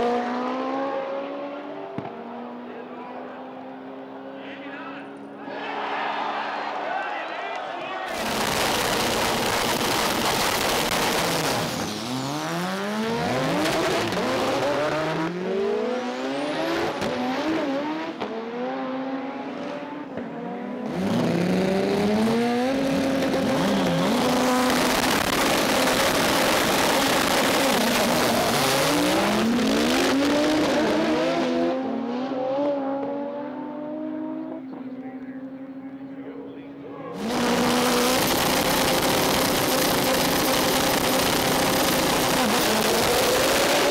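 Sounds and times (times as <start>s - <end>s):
race car engines revving: 0.0s - 5.5s, 8.1s - 43.9s.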